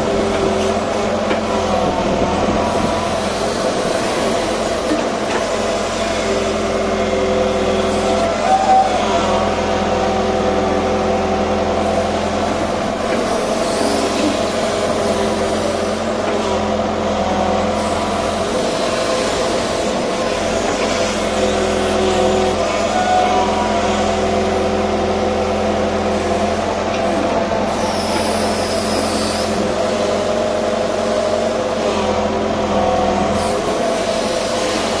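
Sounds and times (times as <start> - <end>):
diesel engine under load: 0.0 - 35.0
high-pitched hydraulic whine: 0.0 - 35.0.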